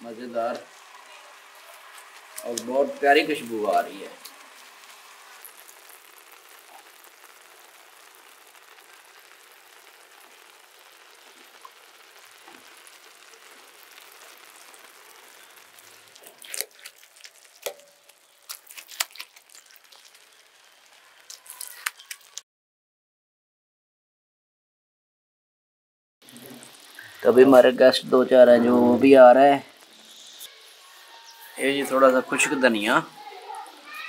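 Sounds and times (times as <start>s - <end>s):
food sizzling in a pan: 0.0s - 22.4s, 26.2s - 34.0s.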